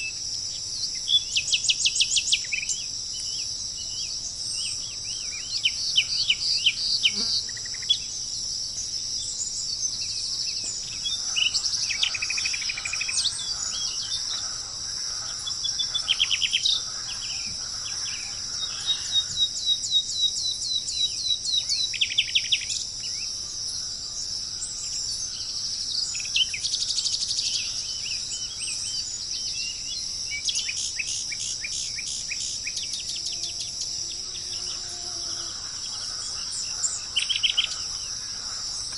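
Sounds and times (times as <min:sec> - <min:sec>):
crickets chirping: 0:00.0 - 0:38.9
songbirds trilling: 0:00.0 - 0:38.9.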